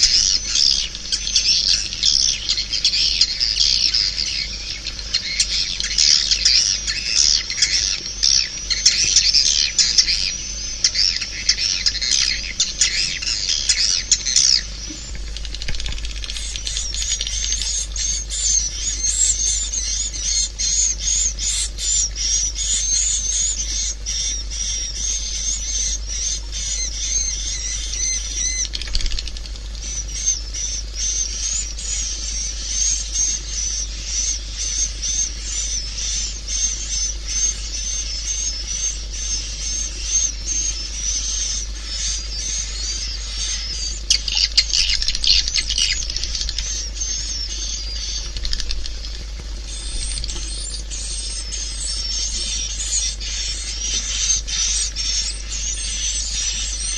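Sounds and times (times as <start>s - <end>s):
low hum: 0.0s - 56.9s.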